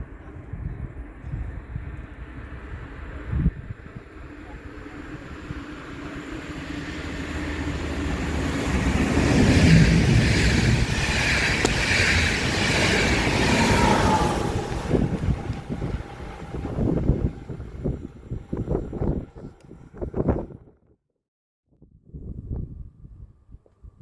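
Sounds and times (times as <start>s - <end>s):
train passing on tracks: 0.0s - 20.6s.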